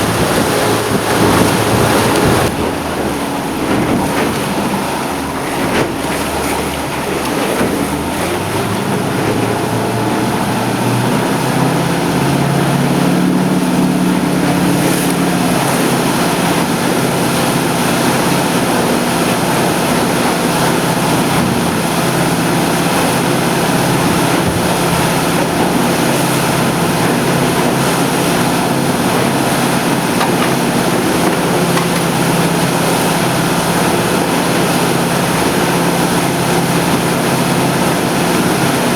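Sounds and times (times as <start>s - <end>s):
outboard motor running: 0.0s - 38.9s
wind and water rushing: 0.0s - 38.9s.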